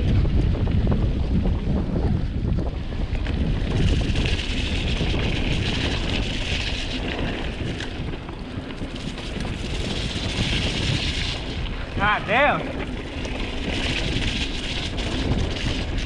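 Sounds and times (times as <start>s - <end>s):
mountain bike rumbling on mud: 0.0s - 16.0s
wind buffeting microphone: 0.0s - 16.0s.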